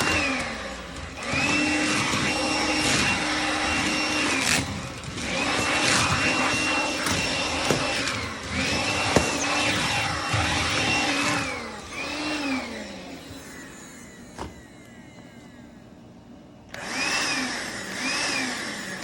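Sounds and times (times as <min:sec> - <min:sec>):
stick vacuum motor running: 0:00.0 - 0:19.0.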